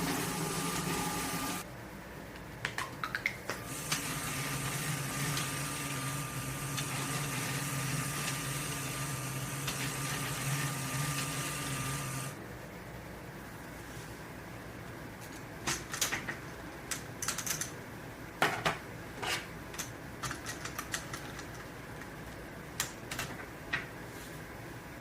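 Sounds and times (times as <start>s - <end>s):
low steady background noise: 1.6s - 10.4s, 12.2s - 25.0s.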